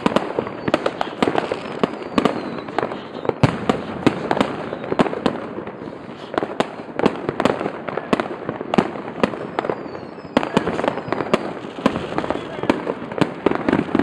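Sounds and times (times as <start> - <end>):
falling firework whistle: 0.0 - 6.7, 9.2 - 14.0
distant fireworks din: 0.0 - 14.0
fireworks bangs: 0.0 - 14.0.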